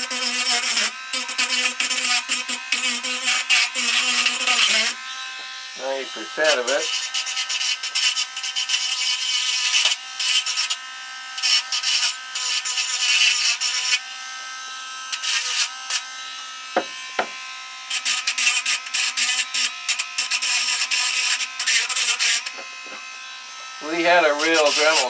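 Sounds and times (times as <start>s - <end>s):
rotary grinder whining: 0.0s - 25.0s.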